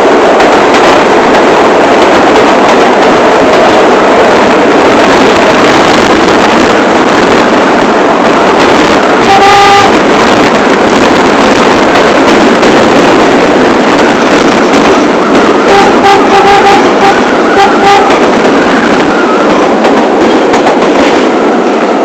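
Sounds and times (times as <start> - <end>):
subway train running at speed: 0.0 - 22.0.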